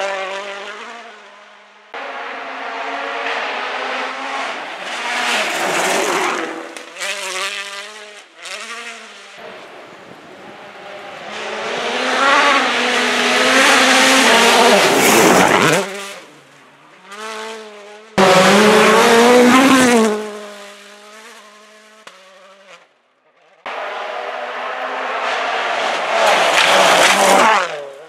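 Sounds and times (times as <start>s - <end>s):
rally car engines revving past: 0.0s - 28.0s.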